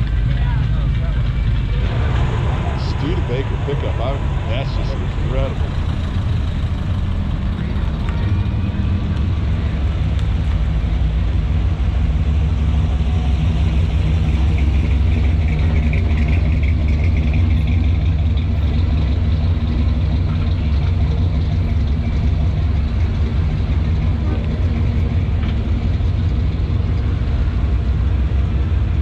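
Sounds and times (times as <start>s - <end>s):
car engines rumbling: 0.0s - 29.0s.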